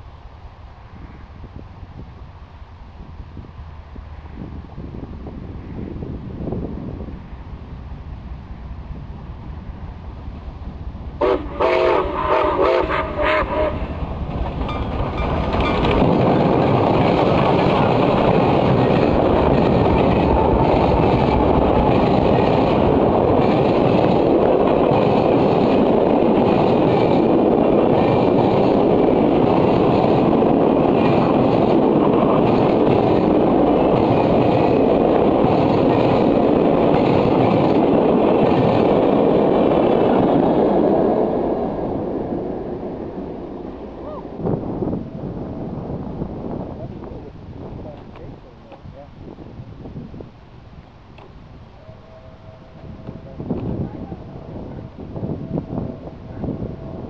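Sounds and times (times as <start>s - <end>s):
steam train passing at speed: 0.0s - 57.0s.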